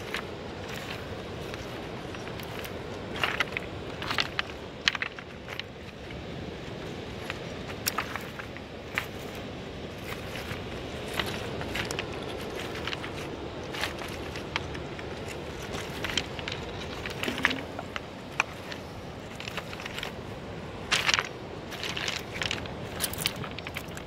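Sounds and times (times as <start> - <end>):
footsteps on pebbles: 0.0 - 24.0.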